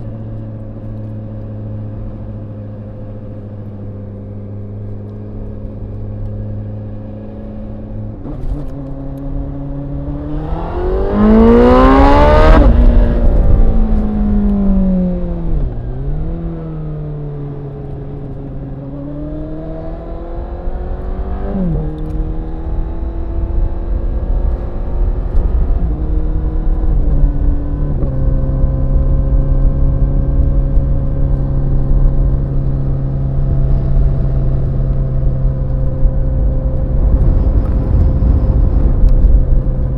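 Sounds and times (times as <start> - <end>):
motorcycle engine revving: 6.5 - 39.9.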